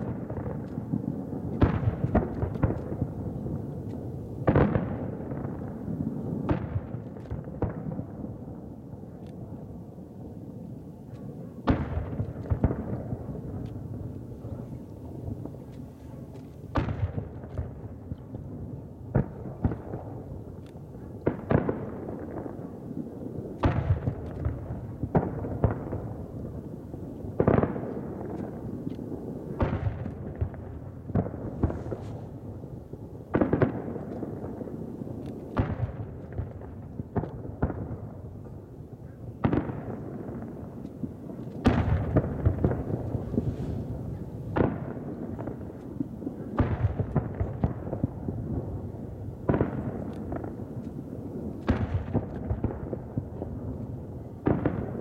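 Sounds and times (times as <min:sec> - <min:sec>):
distant fireworks booming: 0:00.0 - 0:55.0.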